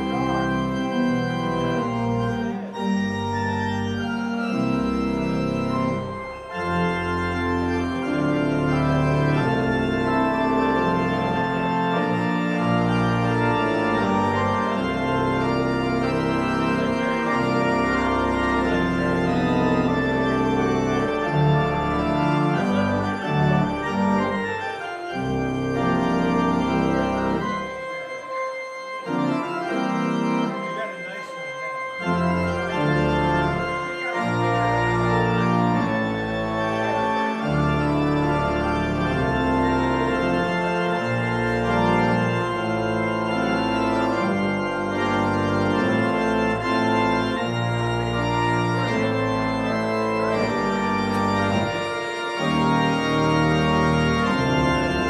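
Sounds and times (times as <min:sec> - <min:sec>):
church organ playing hymn chords: 0:00.0 - 0:55.0.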